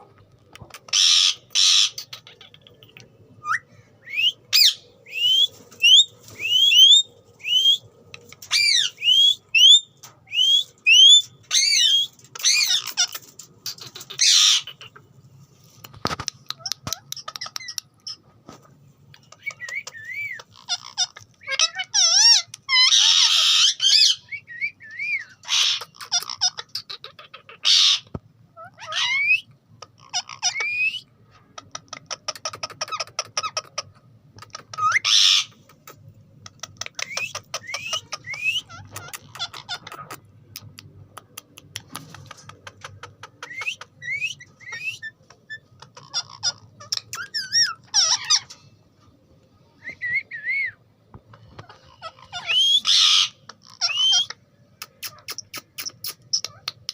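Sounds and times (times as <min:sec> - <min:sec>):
parakeet squawking and chattering: 0:00.4 - 0:03.6, 0:04.5 - 0:15.2, 0:16.1 - 0:18.3, 0:19.2 - 0:48.8, 0:49.9 - 0:56.9.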